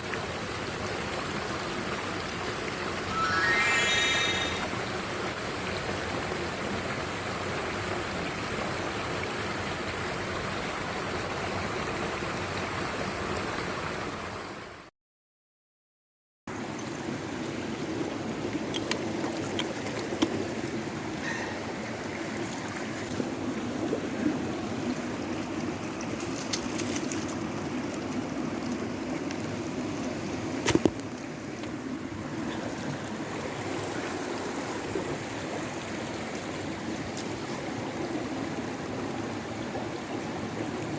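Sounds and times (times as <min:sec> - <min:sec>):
stream water running: 0:00.0 - 0:14.8, 0:16.5 - 0:40.9.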